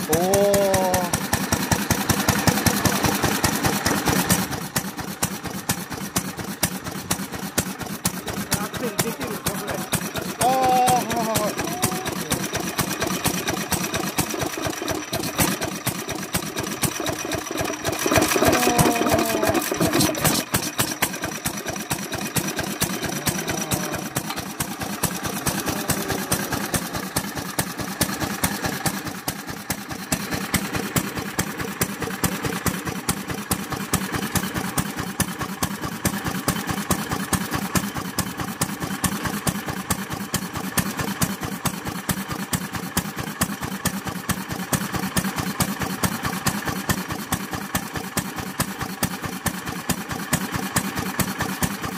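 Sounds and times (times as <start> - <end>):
stationary engine running: 0.0 - 51.9.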